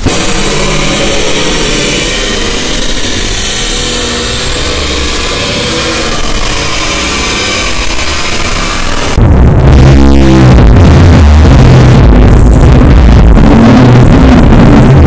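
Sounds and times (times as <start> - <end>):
loud harsh distorted noise: 0.0 - 15.0
low rumble: 0.0 - 15.0.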